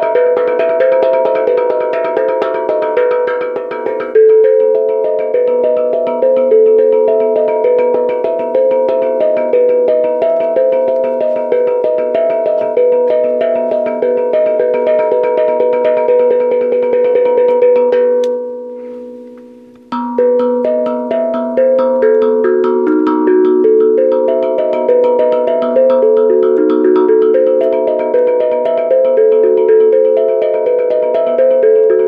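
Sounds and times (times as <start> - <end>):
pitched percussion melody: 0.0 - 32.0.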